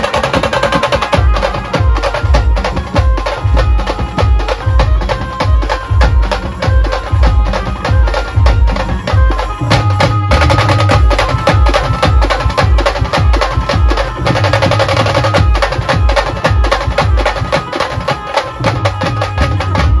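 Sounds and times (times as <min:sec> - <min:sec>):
bass drum beats: 0:00.0 - 0:20.0
rapid drum stick strokes: 0:00.0 - 0:20.0.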